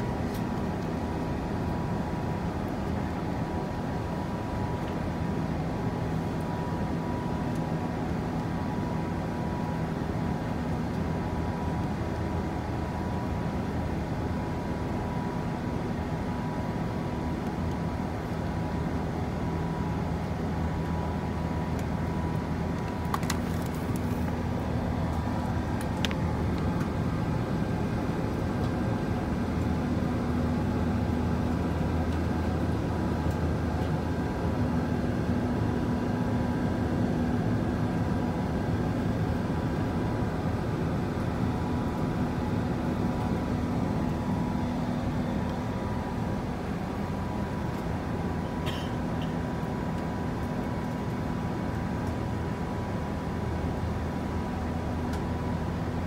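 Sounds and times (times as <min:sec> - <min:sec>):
faint steady whine: 0:00.0 - 0:56.0
low engine drone: 0:00.0 - 0:56.0.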